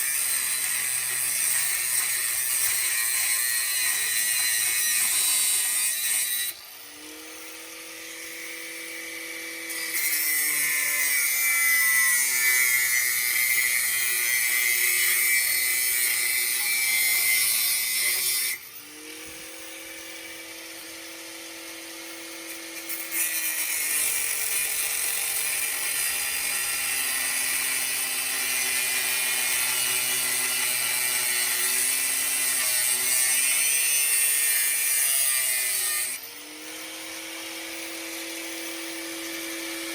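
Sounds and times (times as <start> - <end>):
angle grinder cutting metal: 0.0 - 39.9
angle grinder motor whining: 0.0 - 39.9.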